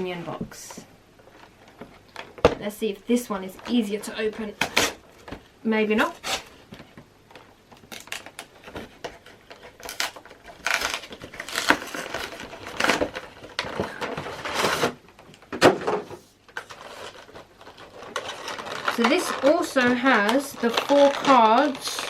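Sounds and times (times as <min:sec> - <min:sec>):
packaging rustling and tearing: 0:03.2 - 0:15.5, 0:16.4 - 0:22.0.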